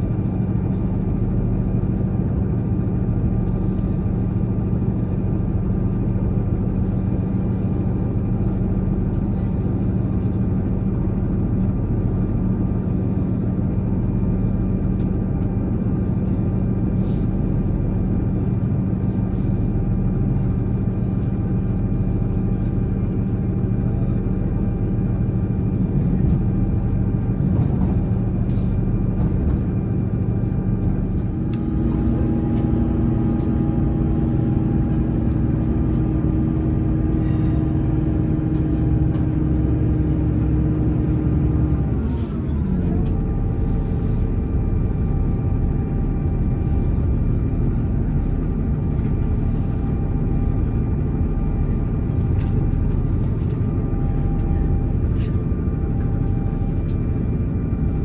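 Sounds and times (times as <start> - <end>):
moving vehicle drone: 0.0 - 58.0.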